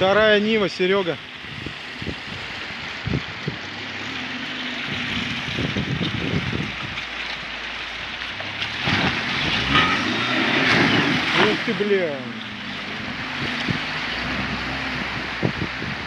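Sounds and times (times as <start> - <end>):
suv engine revving: 1.2 - 7.0, 8.3 - 16.0
water sloshing and splashing: 1.2 - 15.8.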